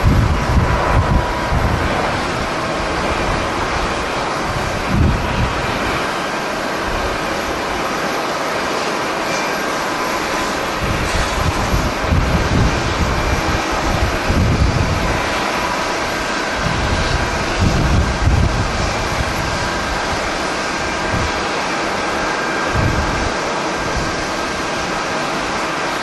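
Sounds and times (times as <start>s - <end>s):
jet engine rushing: 0.0s - 26.0s
wind buffeting microphone: 0.0s - 26.0s.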